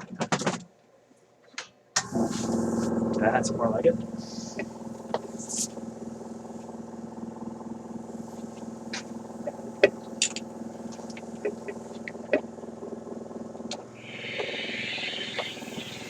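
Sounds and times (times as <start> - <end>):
small air pump motor humming: 2.0 - 16.0.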